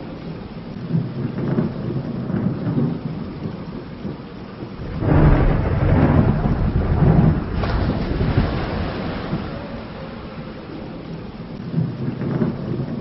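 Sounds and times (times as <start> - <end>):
steady rain: 0.0 - 13.0
thunder rumbling: 0.0 - 13.0.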